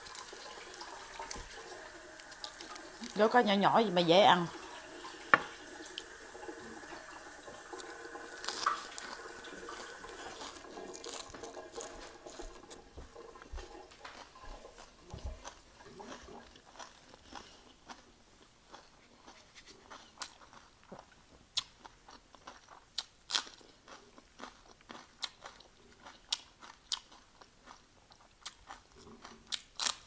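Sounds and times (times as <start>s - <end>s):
crunching and chewing food: 0.0s - 3.2s, 7.0s - 30.0s.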